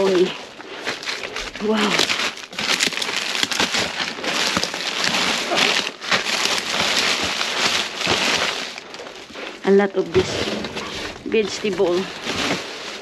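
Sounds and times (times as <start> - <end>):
plastic packages crinkling: 0.0 - 13.0.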